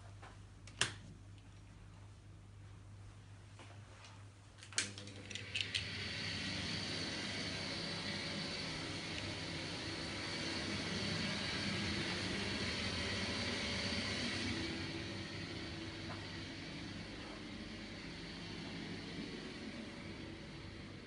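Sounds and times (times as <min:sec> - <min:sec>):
ventilation fan hiss and hum: 0:00.0 - 0:21.0.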